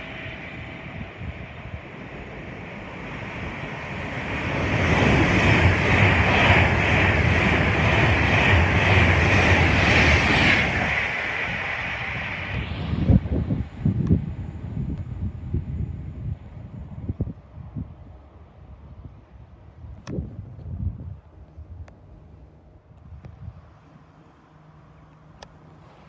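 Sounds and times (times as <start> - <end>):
train passing at speed: 0.0 - 19.9, 20.8 - 26.0.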